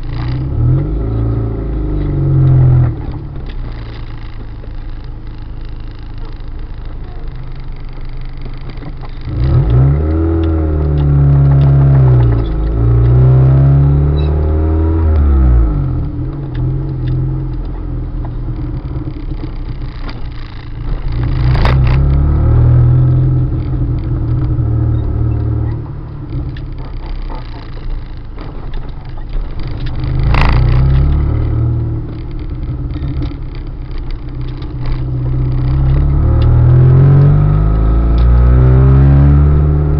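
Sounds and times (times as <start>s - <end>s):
car engine revving: 0.0s - 39.9s
low rumble: 0.0s - 39.9s.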